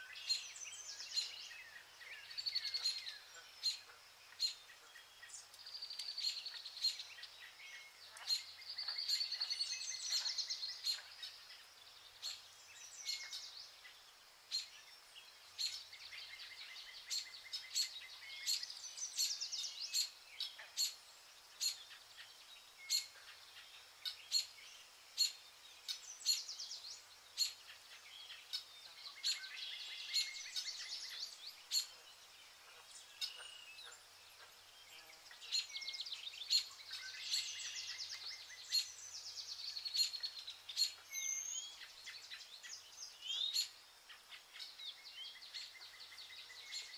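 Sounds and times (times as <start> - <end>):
faint steady hiss: 0.0 - 46.9
songbirds trilling and warbling: 0.0 - 46.9.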